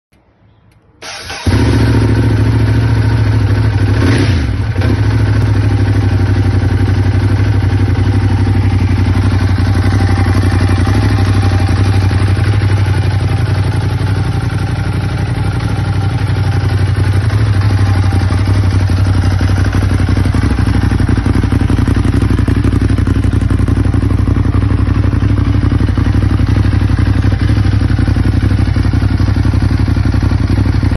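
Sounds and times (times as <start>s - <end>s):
motorcycle engine starting and idling: 1.0s - 30.9s.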